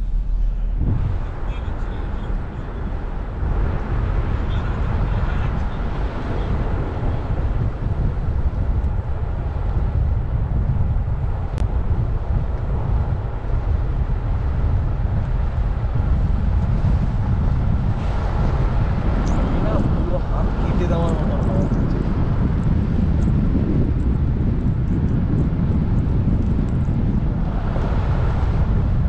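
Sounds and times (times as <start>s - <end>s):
vehicle rumbling: 0.0s - 29.0s.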